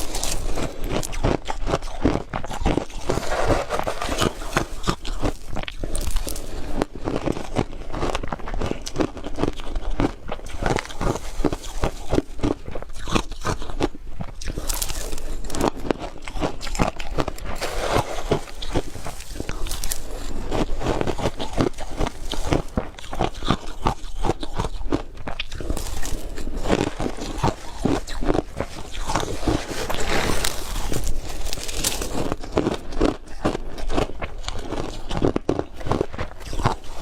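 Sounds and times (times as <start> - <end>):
person chewing crushed ice: 0.0 - 37.0.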